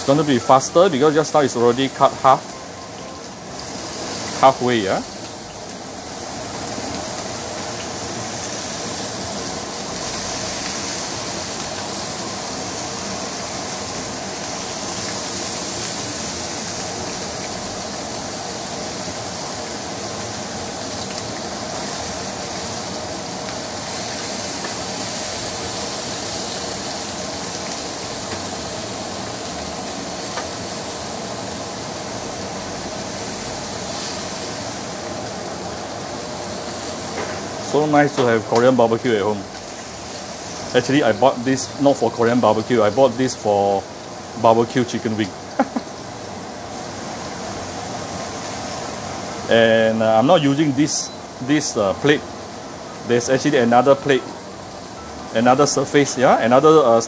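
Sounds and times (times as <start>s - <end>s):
pork sizzling on grill: 0.0s - 57.0s.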